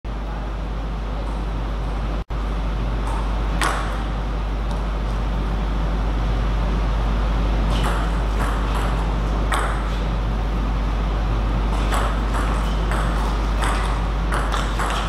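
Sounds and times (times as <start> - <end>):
hiss and electrical hum: 0.1 - 15.0.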